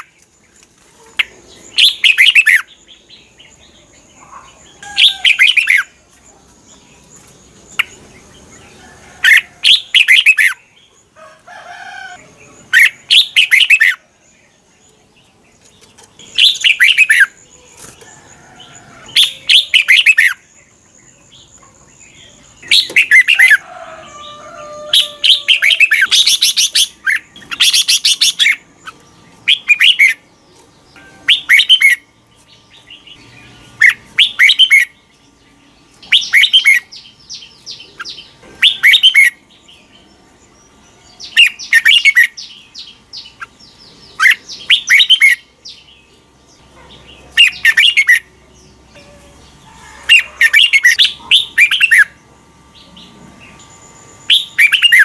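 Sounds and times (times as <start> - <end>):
bird chirping song: 0.0 - 55.0.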